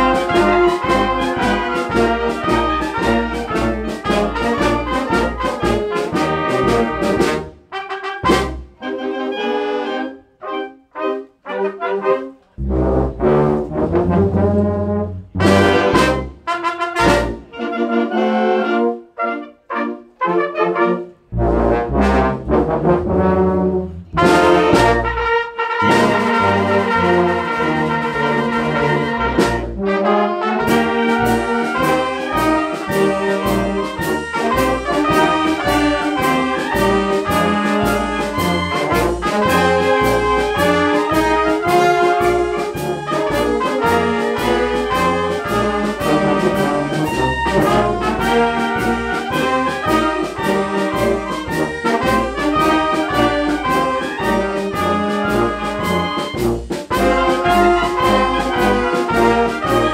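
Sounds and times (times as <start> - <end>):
military wind band playing: 0.0 - 59.9.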